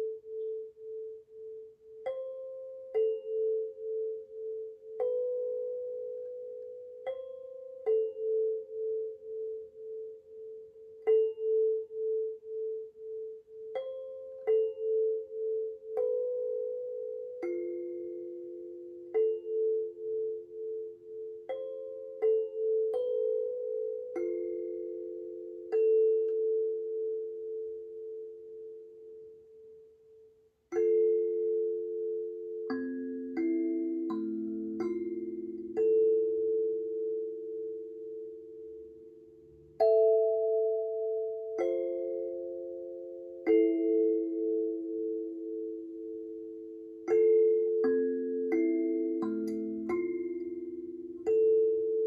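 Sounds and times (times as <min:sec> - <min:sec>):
kalimba notes ringing: 0:00.0 - 0:52.0.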